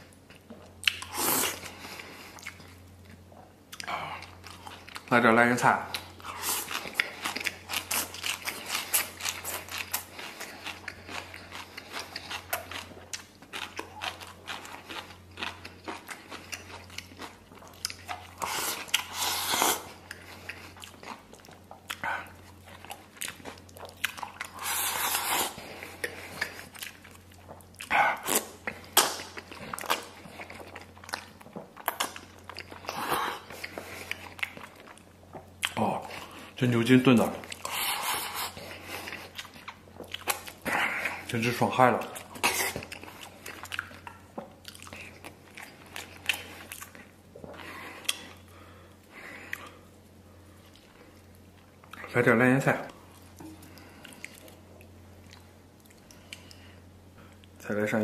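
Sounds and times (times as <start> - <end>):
person chewing and crunching: 0.0 - 52.1, 52.8 - 57.6.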